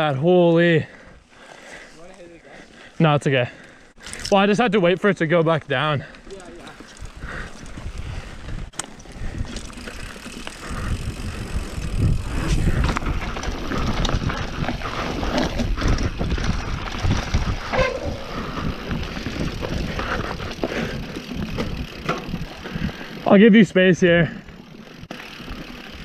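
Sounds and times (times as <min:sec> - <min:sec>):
bike rattling over dirt trail: 0:04.0 - 0:26.0.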